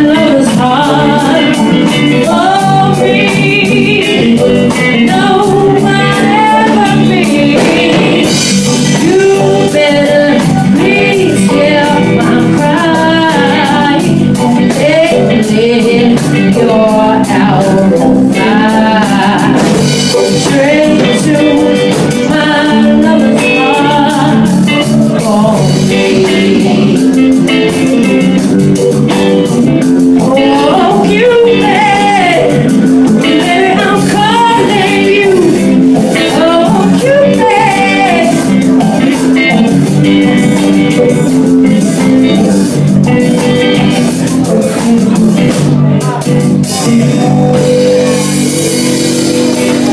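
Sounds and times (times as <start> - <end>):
live band guitar and drums: 0.0 - 49.9
woman singing into a microphone: 0.0 - 49.9.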